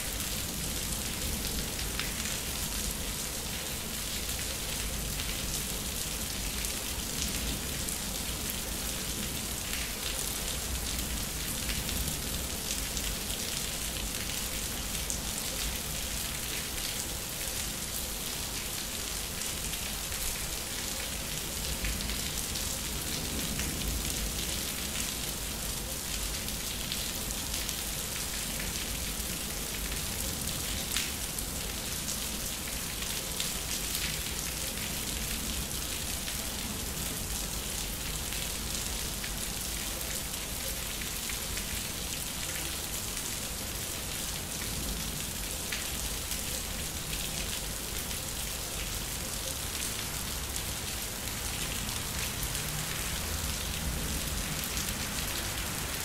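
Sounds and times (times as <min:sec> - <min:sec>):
rain on concrete: 0:00.0 - 0:56.0.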